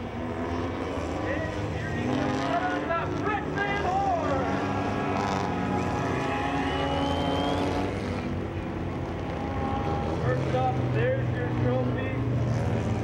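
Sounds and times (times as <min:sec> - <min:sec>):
racing engines: 0:00.0 - 0:13.0.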